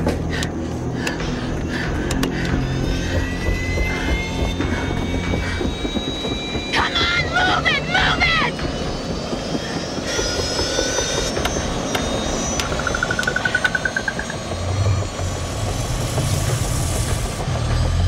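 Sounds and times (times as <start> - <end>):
helicopter engine and rotor: 0.0 - 17.4.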